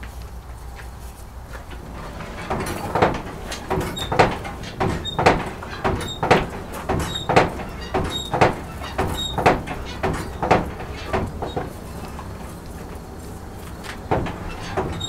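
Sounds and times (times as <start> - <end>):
bellows creaking and squeaking: 0.9 - 15.0.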